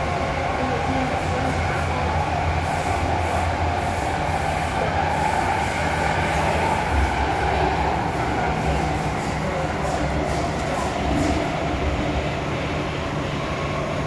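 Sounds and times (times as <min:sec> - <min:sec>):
train carriage rumble: 0:00.0 - 0:14.0
wheels hissing on rail: 0:00.0 - 0:14.0.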